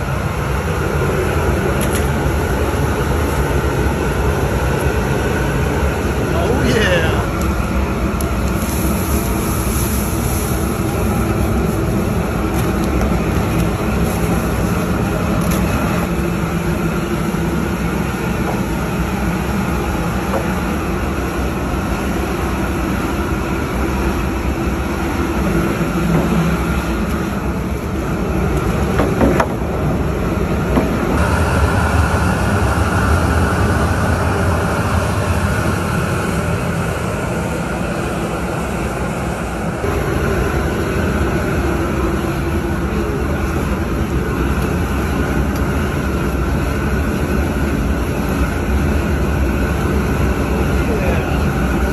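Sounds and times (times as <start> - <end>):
propane burner roaring: 0.0 - 51.9
water at a rolling boil: 0.0 - 51.9.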